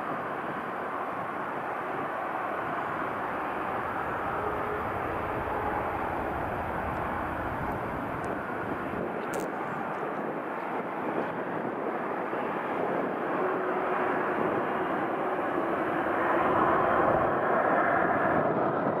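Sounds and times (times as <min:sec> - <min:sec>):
faint steady whine: 0:00.0 - 0:17.8
jet engines roaring: 0:00.0 - 0:19.0.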